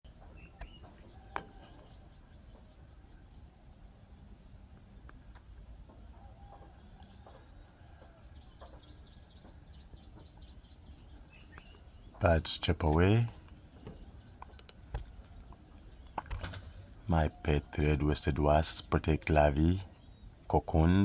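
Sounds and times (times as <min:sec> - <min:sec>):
bird chirps: 0:00.1 - 0:03.4, 0:04.1 - 0:21.0.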